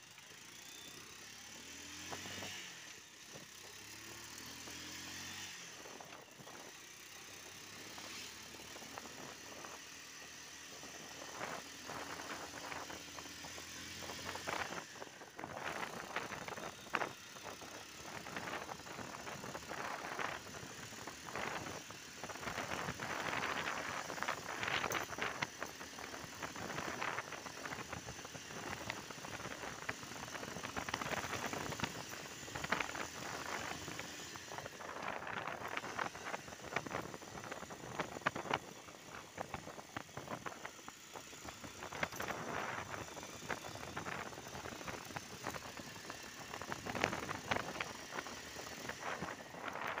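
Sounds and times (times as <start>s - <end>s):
motorbike engine running: 0.1s - 50.0s.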